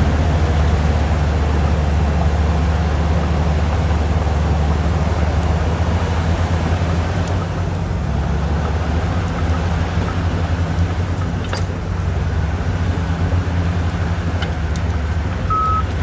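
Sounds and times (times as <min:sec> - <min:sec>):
bulldozer engine rumble: 0:00.0 - 0:16.0
bulldozer tracks moving: 0:00.0 - 0:16.0.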